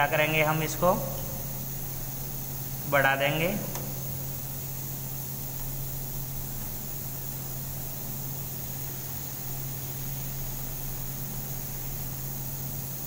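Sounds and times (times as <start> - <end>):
even hiss: 0.0 - 13.0.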